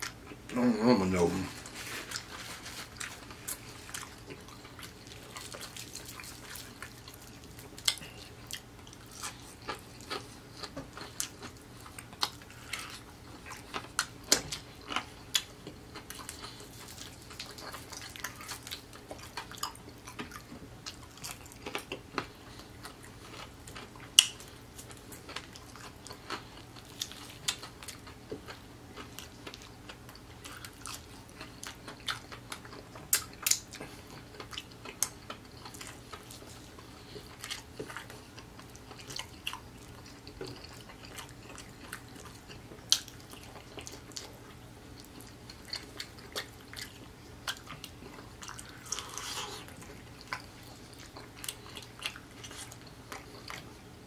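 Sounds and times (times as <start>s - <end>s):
close chewing and crunching: 0.0s - 54.0s.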